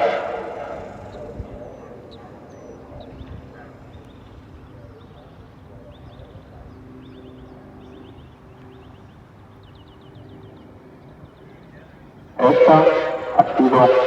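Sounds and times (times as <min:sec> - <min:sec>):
small birds chirping: 0:01.0 - 0:12.4.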